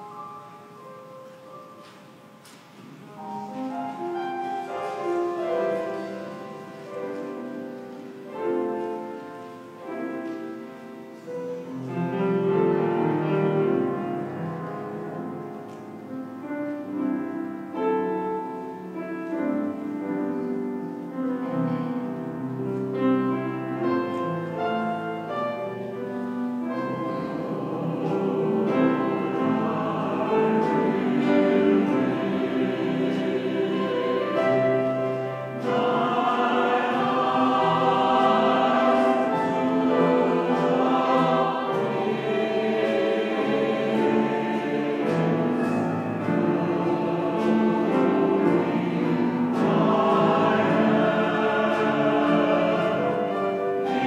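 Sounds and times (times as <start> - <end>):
choir singing: 0.0 - 2.2, 3.0 - 54.0
piano playing held chords: 0.0 - 54.0.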